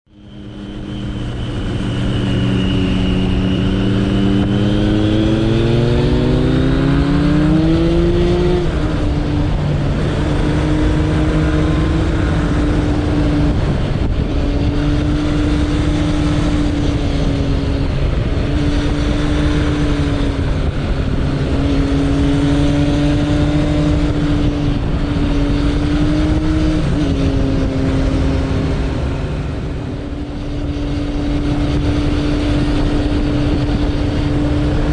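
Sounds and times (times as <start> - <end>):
motorcycle engine accelerating: 0.1 - 34.9
wind noise: 0.1 - 34.9.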